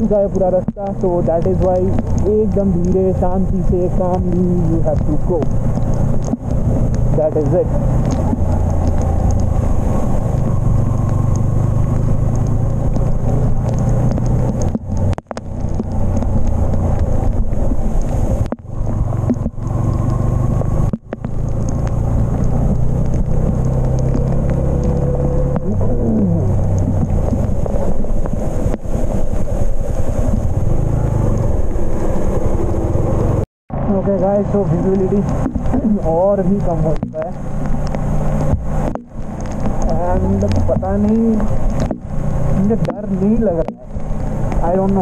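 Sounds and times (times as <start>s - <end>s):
motorcycle engine running: 0.0s - 45.0s
wind noise: 0.0s - 45.0s.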